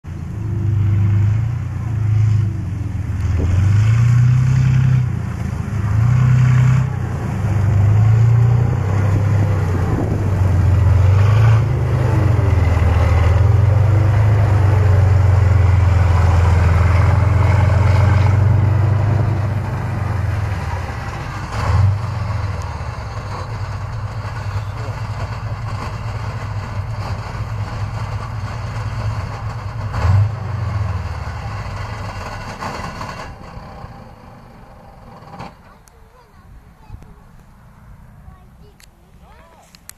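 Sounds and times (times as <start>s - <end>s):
tracked vehicle engine revving: 0.1s - 38.7s.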